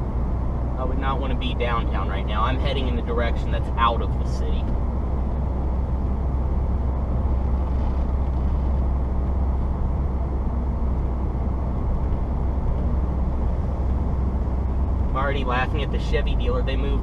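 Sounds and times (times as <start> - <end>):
car engine droning: 0.0 - 17.0
road noise: 0.0 - 17.0.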